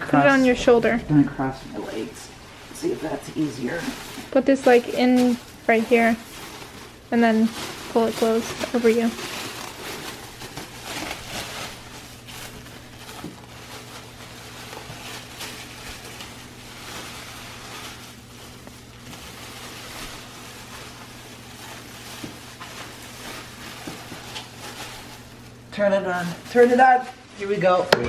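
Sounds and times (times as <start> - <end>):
plastic bag rustling: 0.0 - 27.8
low electrical hum: 0.0 - 28.0.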